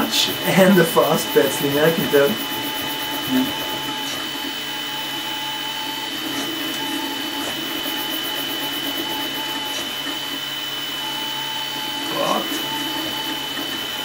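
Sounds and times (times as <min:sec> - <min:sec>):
printer motor tone: 0:00.0 - 0:14.0
three d printer high whine: 0:00.0 - 0:14.0.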